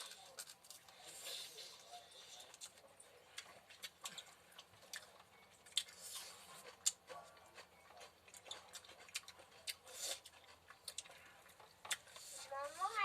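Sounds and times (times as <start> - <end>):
eating clicks and crunches: 0.0 - 12.4.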